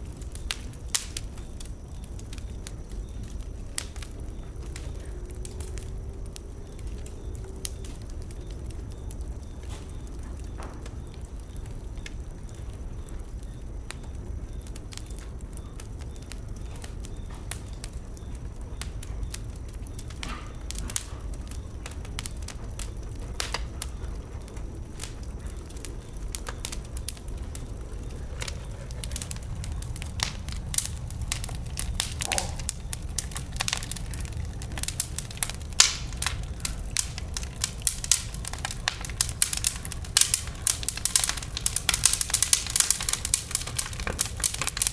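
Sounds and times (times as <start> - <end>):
bonfire pops and crackles: 0.0 - 44.9
low steady fire rumble: 0.0 - 44.9.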